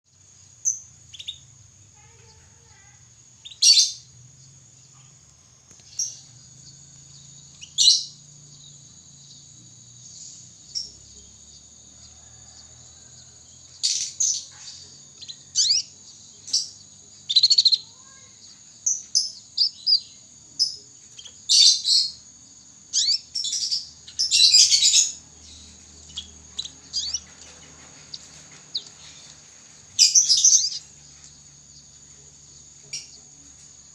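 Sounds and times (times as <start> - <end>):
canary chirping and trilling: 0.1 - 33.7.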